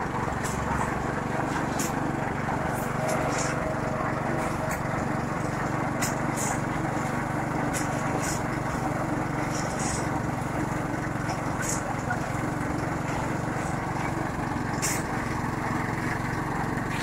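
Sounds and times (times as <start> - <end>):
concrete mixer engine running: 0.0 - 17.0.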